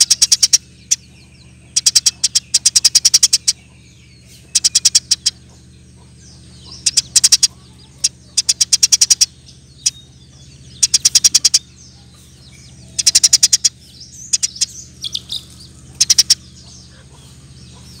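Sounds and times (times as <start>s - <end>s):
sparrow chirping: 0.0s - 18.0s.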